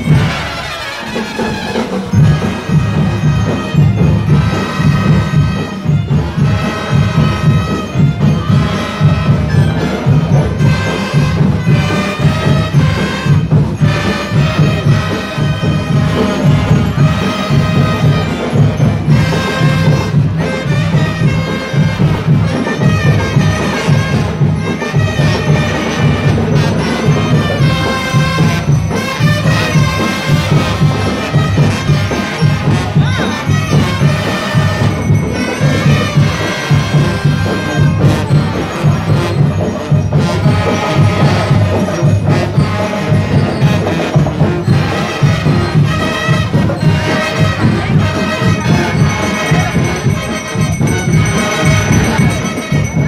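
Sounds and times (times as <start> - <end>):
drums beating: 0.0 - 53.0
faint crowd: 0.0 - 53.0
marching band playing: 0.0 - 53.0.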